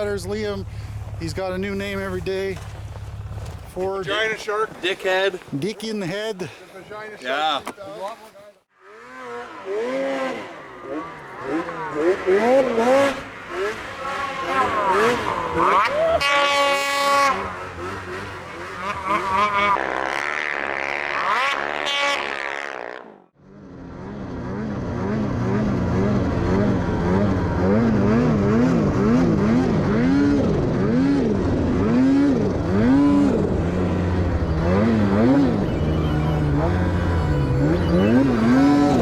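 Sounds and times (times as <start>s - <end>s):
snowmobile engines revving: 0.0s - 39.0s.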